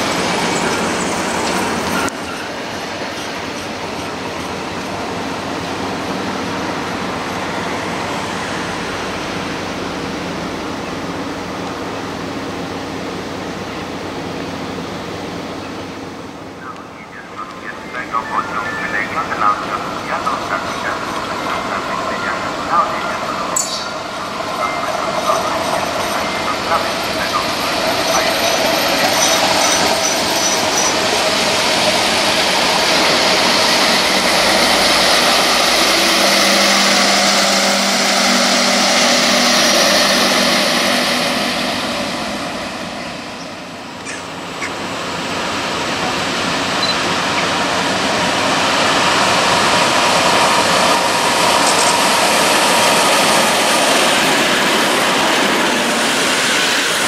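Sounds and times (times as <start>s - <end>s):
diesel train passing: 0.0s - 57.0s
passenger train rolling in: 0.0s - 57.0s.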